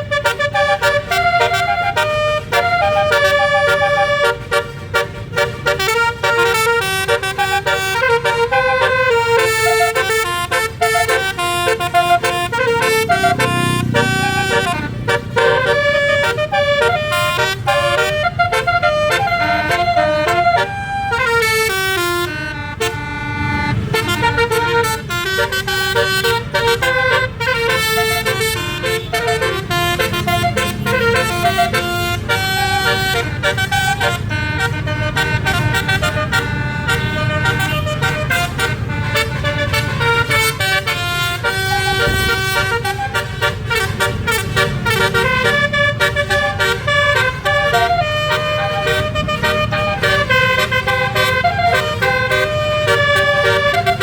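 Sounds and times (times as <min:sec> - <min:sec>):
bus air horn playing melodies: 0:00.0 - 0:54.0
engine running low: 0:00.0 - 0:54.0.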